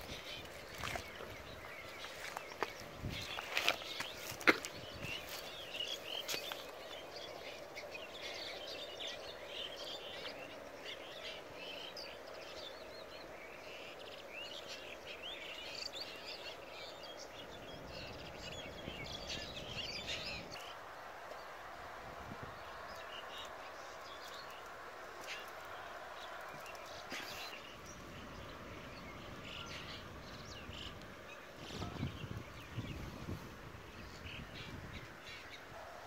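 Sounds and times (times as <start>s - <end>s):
small birds chirping: 0.0s - 21.6s, 22.5s - 36.0s.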